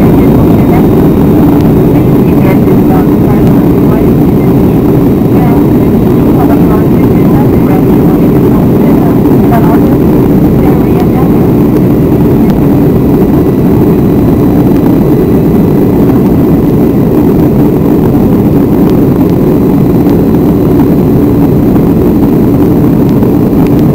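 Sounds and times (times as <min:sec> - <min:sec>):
jet engines rumbling: 0:00.0 - 0:23.9.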